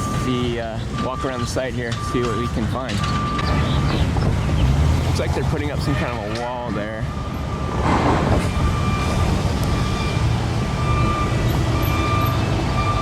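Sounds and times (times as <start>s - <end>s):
backup alarm beeping: 0.0s - 4.1s, 5.8s - 13.0s
heavy vehicle engines rumbling: 0.0s - 13.0s.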